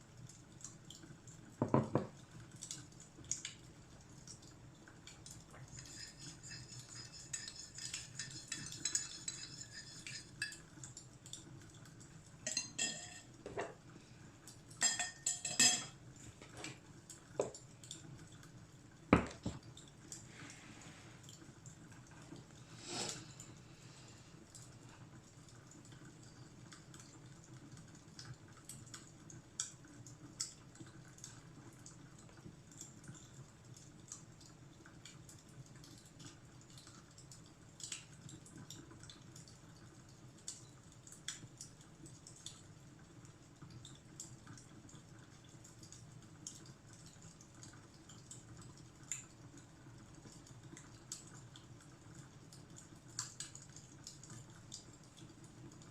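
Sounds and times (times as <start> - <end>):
faint low background hum: 0.0 - 55.9.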